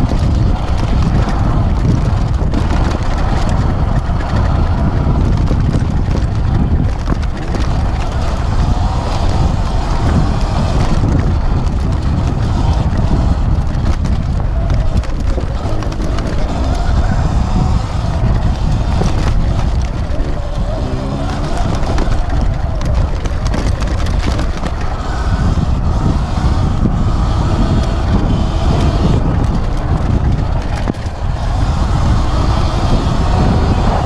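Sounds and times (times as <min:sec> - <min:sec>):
gravel ticks: 0:00.0 - 0:34.0
tyres running on trail: 0:00.0 - 0:34.0
wind rushing over microphone: 0:00.0 - 0:34.0.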